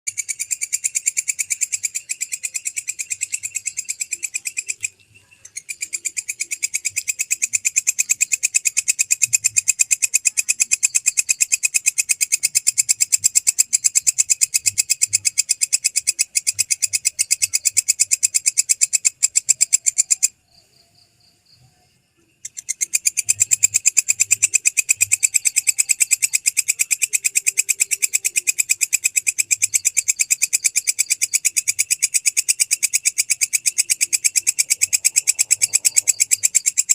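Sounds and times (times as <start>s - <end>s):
katydid chirping: 0.1s - 36.9s.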